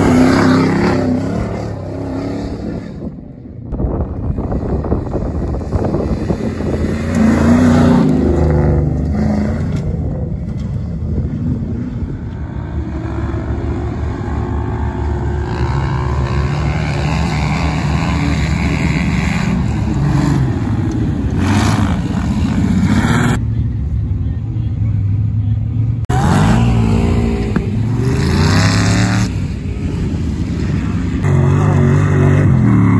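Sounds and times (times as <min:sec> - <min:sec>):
off-road vehicle engines revving: 0:00.0 - 0:32.9.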